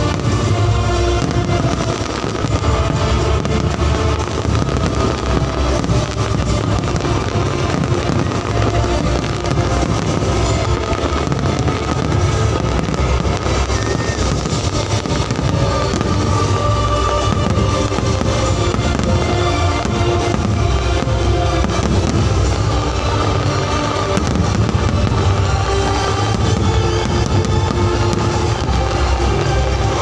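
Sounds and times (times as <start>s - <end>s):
fireworks popping and crackling: 0.0s - 30.0s
music playing: 0.0s - 30.0s.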